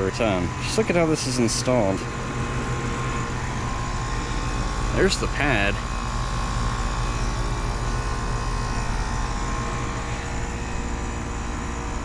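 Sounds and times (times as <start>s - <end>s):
air conditioner units humming: 0.0s - 12.0s
steady mid-pitched tone: 0.0s - 12.0s.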